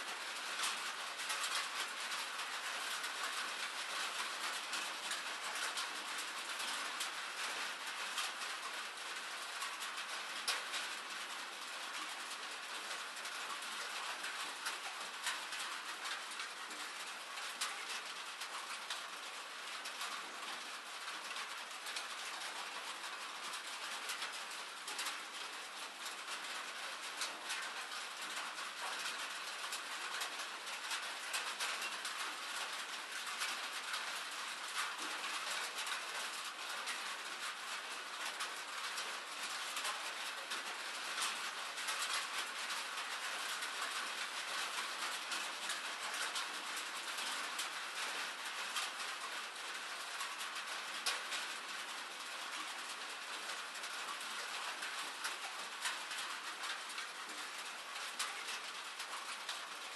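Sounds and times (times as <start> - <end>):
sharp raindrop ticks: 0.0 - 59.9
steady rain falling: 0.0 - 59.9.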